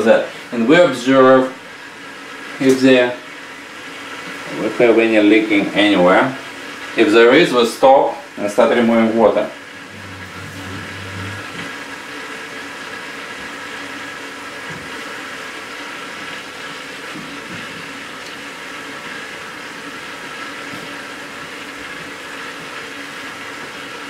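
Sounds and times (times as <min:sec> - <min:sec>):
water pump whirring: 0:00.0 - 0:24.0.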